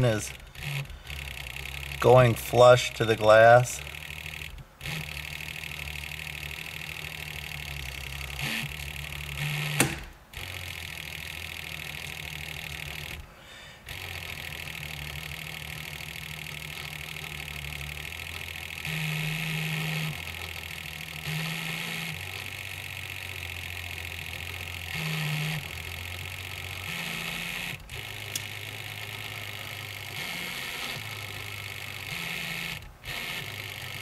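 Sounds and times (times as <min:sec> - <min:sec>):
cordless drill motor hum: 0:00.0 - 0:34.0.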